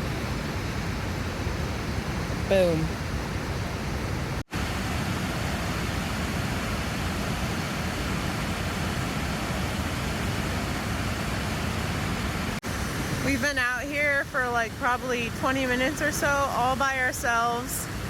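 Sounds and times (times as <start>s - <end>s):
waterfall roar: 0.0s - 18.0s.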